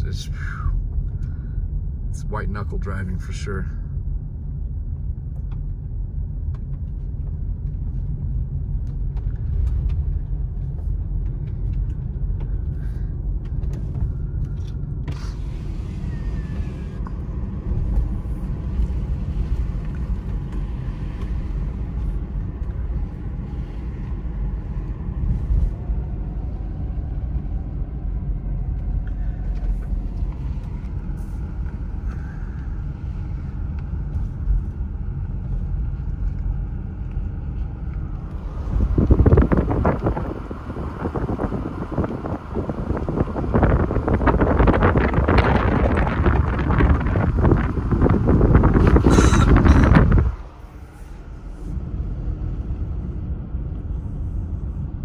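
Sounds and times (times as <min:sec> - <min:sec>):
road and engine rumble: 0:00.0 - 0:55.0.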